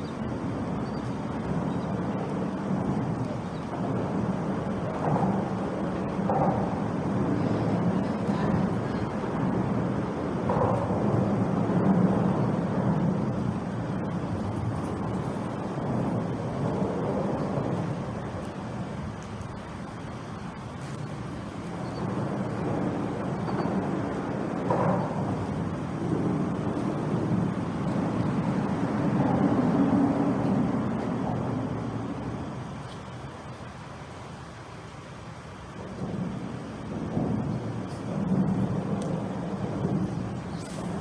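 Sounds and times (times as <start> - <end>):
road traffic rumbling: 0.0 - 41.0.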